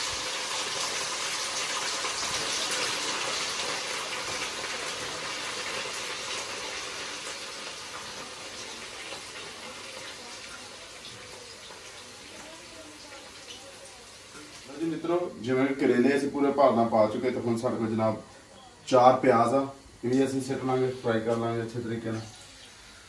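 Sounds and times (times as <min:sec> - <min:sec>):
vegetables frying in hot oil: 0:00.0 - 0:23.0.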